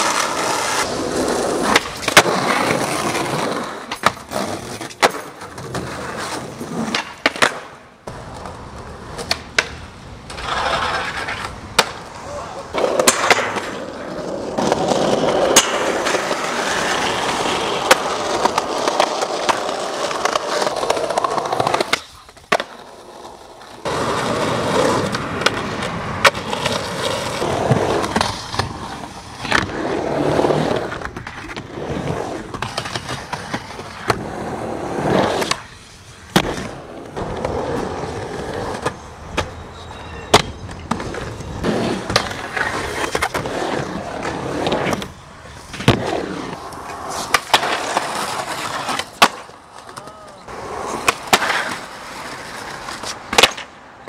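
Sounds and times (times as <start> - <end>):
skateboard trucks grinding metal: 0.0 - 53.8
skateboard clacking: 0.0 - 54.0
skateboard wheels rolling: 0.0 - 54.0.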